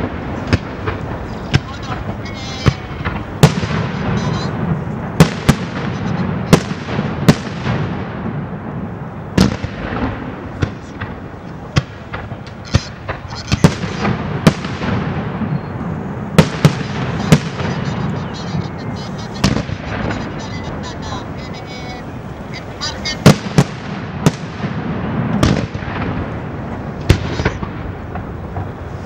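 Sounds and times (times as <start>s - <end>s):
fireworks crackling and rumbling: 0.0s - 29.0s.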